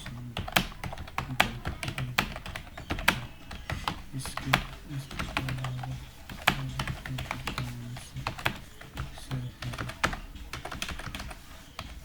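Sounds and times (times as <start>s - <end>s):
typing on computer keyboard: 0.0s - 12.0s.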